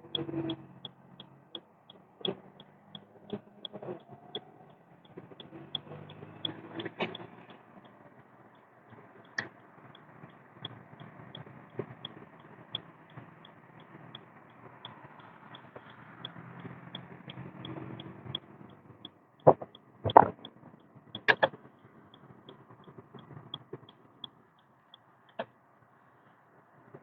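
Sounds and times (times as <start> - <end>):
car road and engine noise: 0.0 - 27.0
light regular ticking: 0.0 - 27.0.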